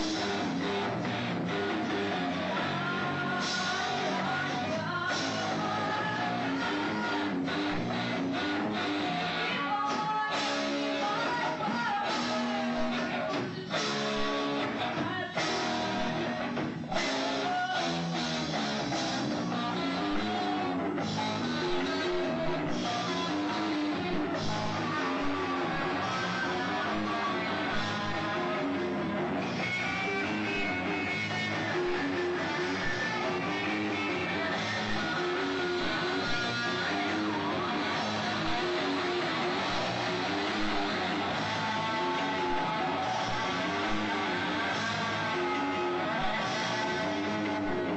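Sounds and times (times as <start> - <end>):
rock band playing live: 0.0 - 47.9
strummed guitar: 0.0 - 47.9.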